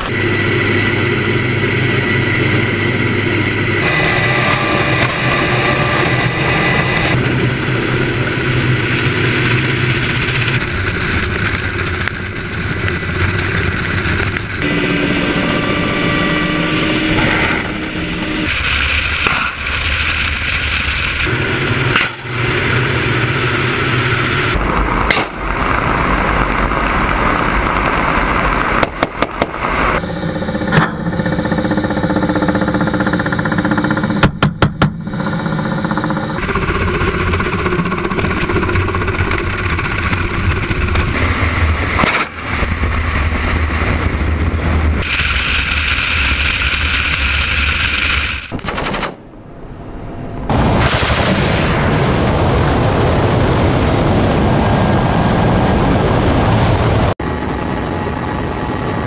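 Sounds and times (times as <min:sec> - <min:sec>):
helicopter engines and rotors: 0:00.0 - 0:59.0.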